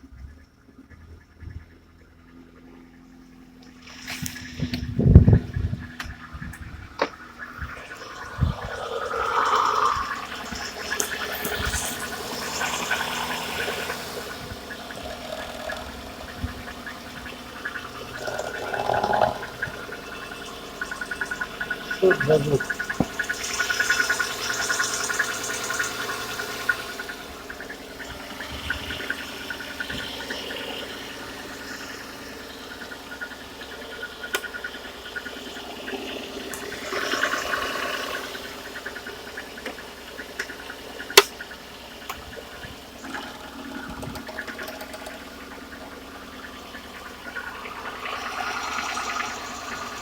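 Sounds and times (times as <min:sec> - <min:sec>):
engine knocking tick: 0:03.6 - 0:50.0.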